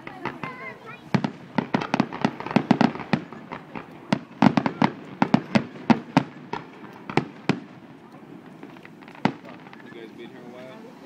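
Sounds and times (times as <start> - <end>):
fireworks bangs and pops: 0.0 - 10.6.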